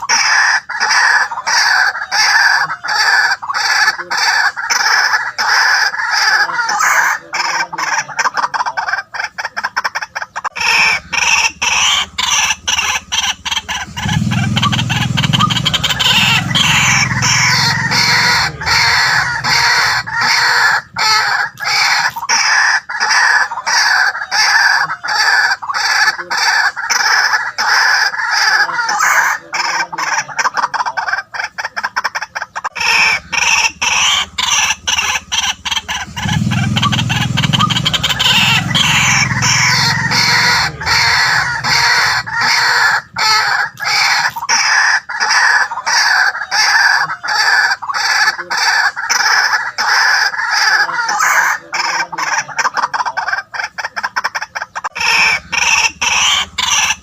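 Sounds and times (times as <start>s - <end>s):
bird harsh repeated calls: 0.0s - 57.0s.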